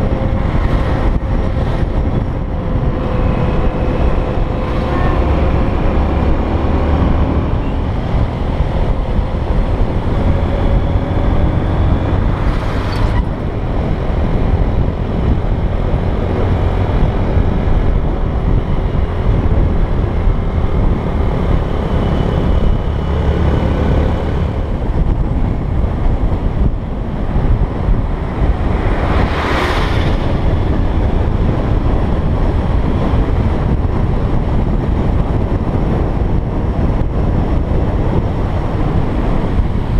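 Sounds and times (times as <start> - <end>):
motorbike engine drone: 0.0 - 39.9
wind buffeting microphone: 0.0 - 39.9.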